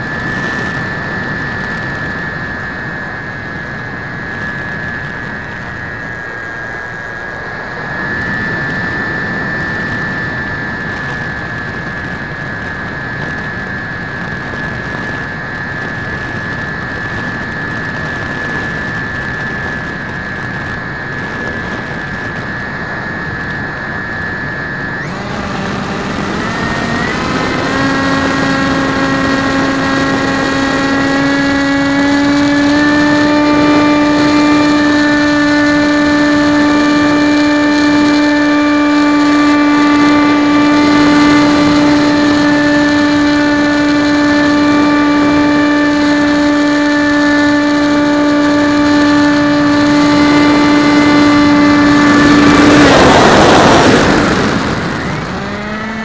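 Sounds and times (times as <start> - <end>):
motor and propeller whine: 0.0 - 56.0
wind rush: 0.0 - 56.0.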